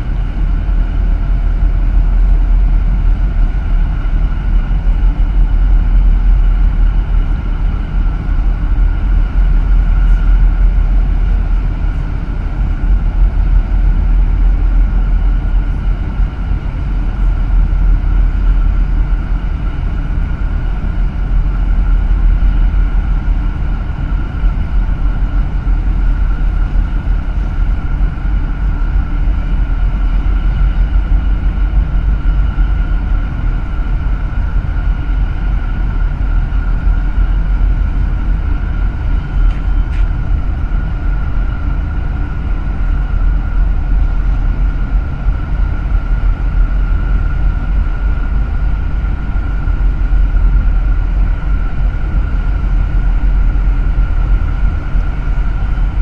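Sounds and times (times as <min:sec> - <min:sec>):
boat engine rumble: 0:00.0 - 0:56.0
steady engine whine: 0:00.0 - 0:56.0.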